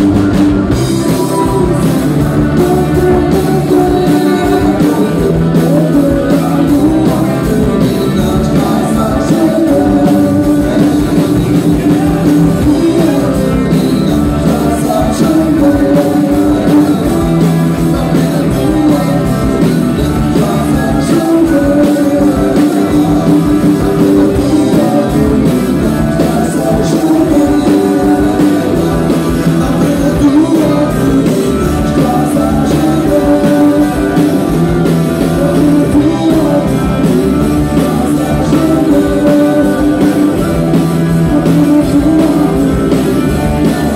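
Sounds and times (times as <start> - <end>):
band playing: 0.0 - 43.9
guitar: 0.0 - 43.9
person singing: 0.0 - 43.9.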